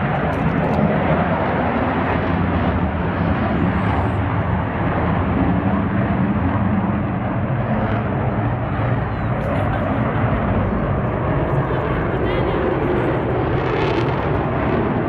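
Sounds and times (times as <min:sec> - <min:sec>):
airplane engine roar: 0:00.0 - 0:15.0.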